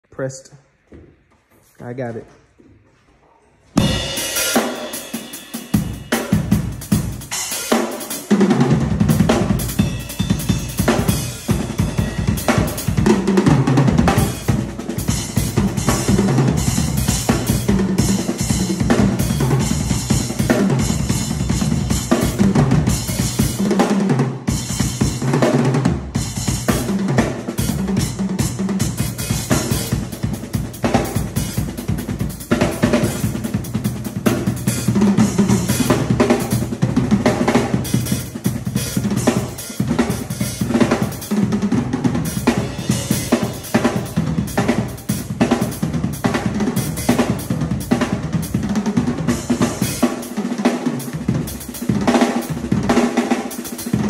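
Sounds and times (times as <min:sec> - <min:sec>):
acoustic drum kit: 0:03.7 - 0:54.0
heavy bass drum: 0:03.8 - 0:54.0.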